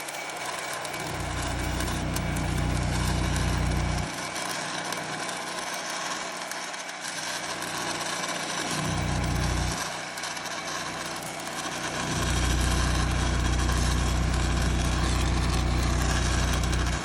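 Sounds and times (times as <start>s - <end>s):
arc welding crackling hiss: 0.9s - 6.3s, 7.4s - 17.0s.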